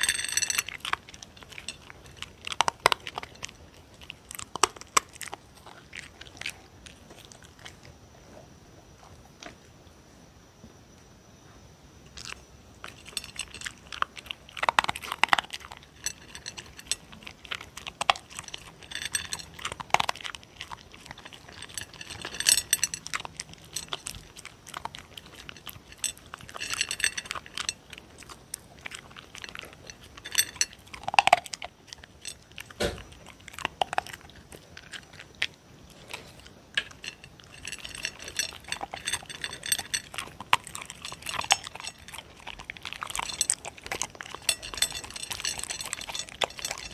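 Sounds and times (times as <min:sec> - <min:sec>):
dog crunching dry kibble: 0:00.0 - 0:07.9, 0:12.2 - 0:46.9.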